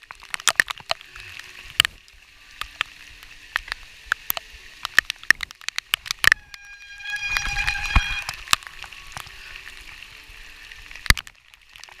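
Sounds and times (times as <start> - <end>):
raindrops tapping: 0.0 - 10.2
rain falling: 0.0 - 12.0.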